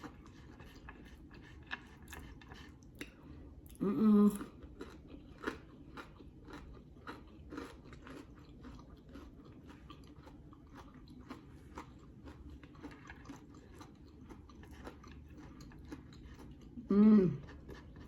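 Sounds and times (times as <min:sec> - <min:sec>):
chewing crispy potato crunches: 0:00.0 - 0:18.0.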